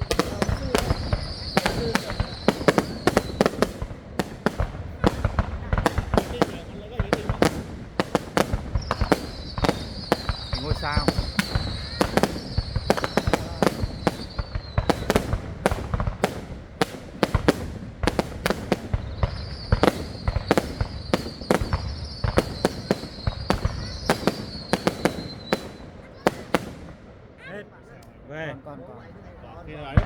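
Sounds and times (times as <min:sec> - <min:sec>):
fireworks bangs and crackles: 0:00.0 - 0:27.4, 0:29.6 - 0:30.0.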